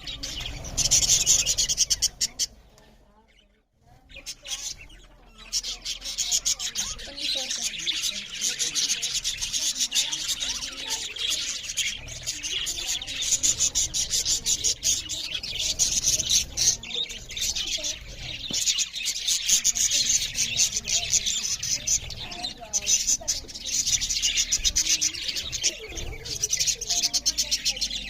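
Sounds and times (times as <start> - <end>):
budgerigars chattering: 0.0 - 2.6, 4.1 - 28.0.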